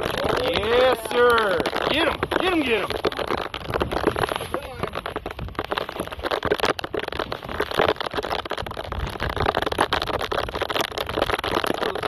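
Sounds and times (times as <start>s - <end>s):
wind and rain buffeting microphone: 0.0s - 12.0s.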